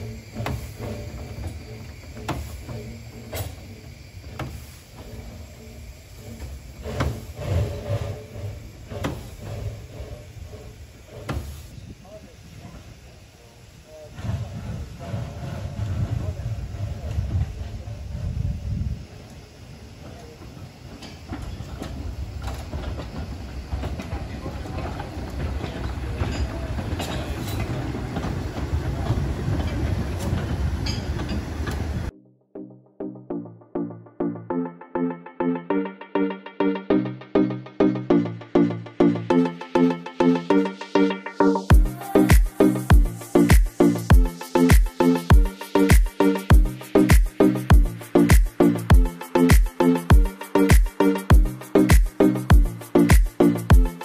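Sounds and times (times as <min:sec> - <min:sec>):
steam locomotive rumbling: 0:00.0 - 0:32.1, 0:38.0 - 0:54.0.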